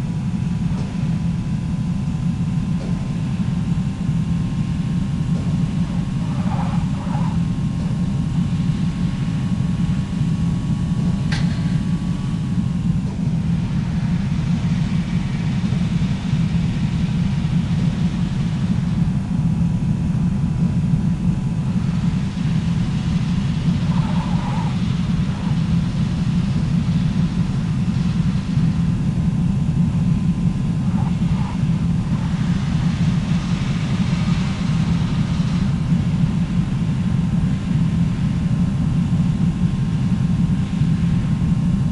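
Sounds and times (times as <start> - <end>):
vehicle rumble from inside cabin: 0.0 - 41.9.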